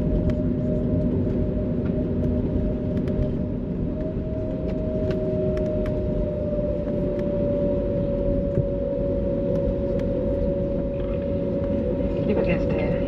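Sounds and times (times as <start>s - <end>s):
cabin low rumble: 0.0s - 13.0s
jet engine whine: 0.0s - 13.0s.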